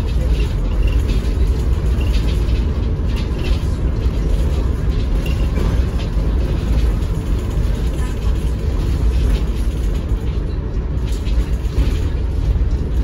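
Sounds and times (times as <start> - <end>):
bus diesel engine rumble: 0.0 - 13.0
road noise: 0.0 - 13.0.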